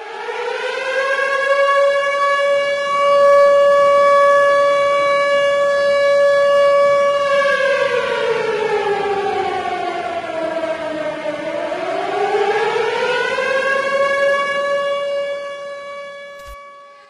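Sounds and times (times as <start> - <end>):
air-raid siren wailing: 0.0 - 17.0.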